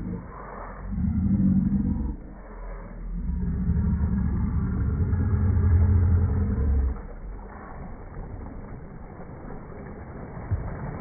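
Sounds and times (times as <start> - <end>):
loud low rumble: 0.0 - 9.5.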